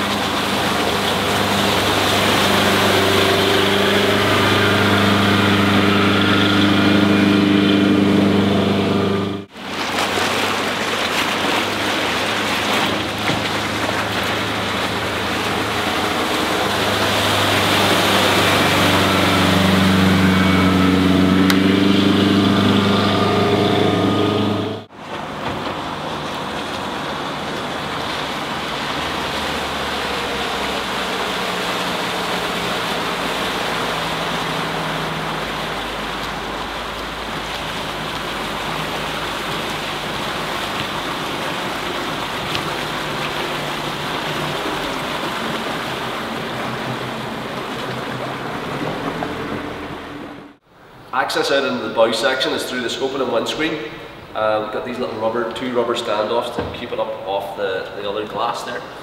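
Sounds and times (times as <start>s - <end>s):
boat engine running: 0.0s - 51.1s
rushing water: 0.0s - 59.0s.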